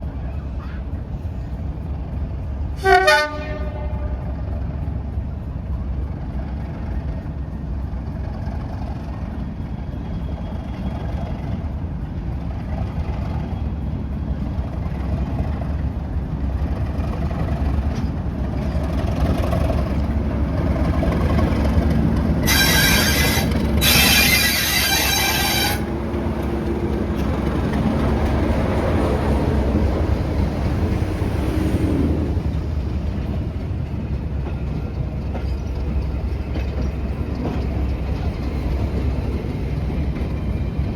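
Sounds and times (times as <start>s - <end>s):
locomotive low rumble: 0.0s - 40.9s.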